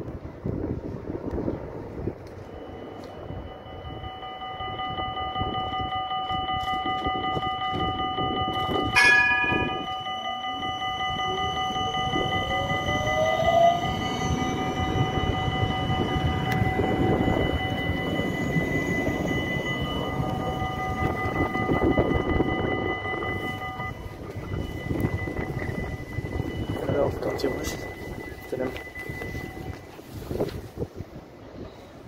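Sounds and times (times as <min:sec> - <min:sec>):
tram drive whine: 0:00.0 - 0:32.0
tram running on rails: 0:00.0 - 0:32.0
tram bell ringing: 0:02.4 - 0:31.0.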